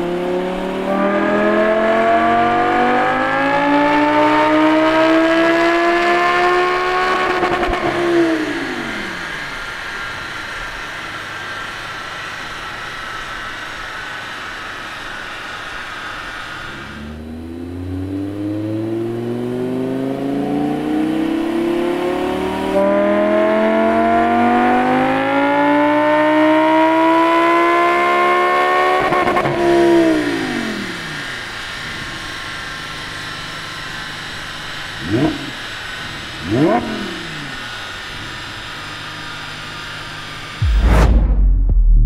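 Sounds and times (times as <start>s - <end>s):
car engine droning and accelerating: 0.0s - 42.0s.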